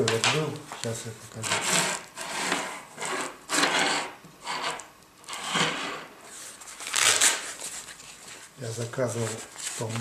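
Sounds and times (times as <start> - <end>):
objects scraping and rustling: 0.0 - 10.0.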